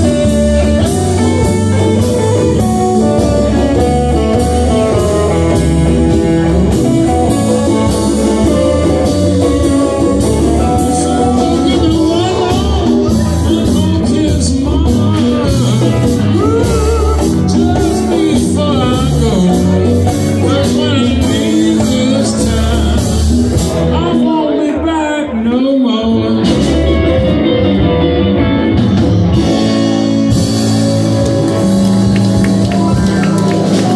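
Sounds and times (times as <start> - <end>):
drum kit: 0.0 - 24.4, 26.1 - 33.9
person singing: 0.0 - 28.0
electric guitars: 0.0 - 33.9.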